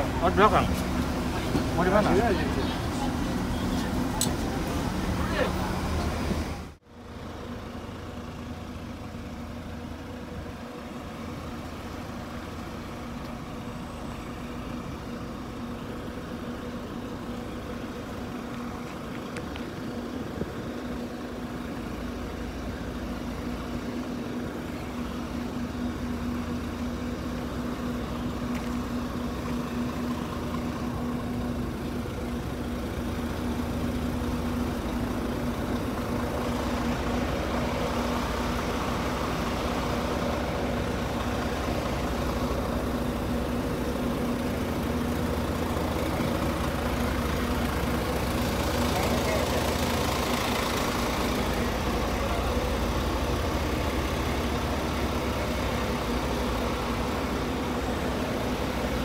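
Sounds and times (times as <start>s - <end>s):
diesel engines idling: 0.0s - 59.0s.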